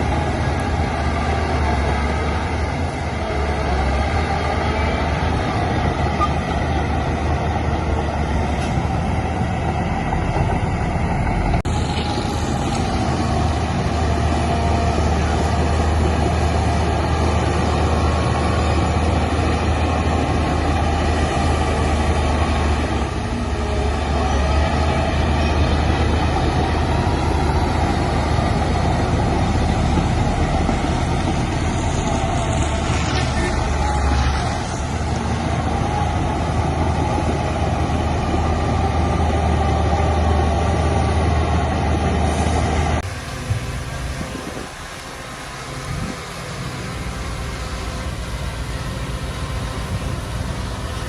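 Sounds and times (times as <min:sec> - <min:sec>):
heavy diesel engine droning: 0:00.0 - 0:51.0.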